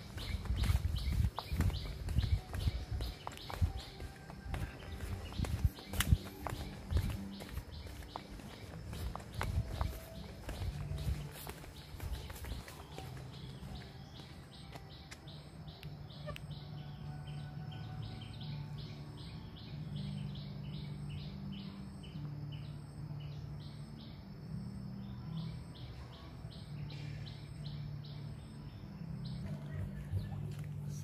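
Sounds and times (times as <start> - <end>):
bird chirping: 0.0 - 31.0.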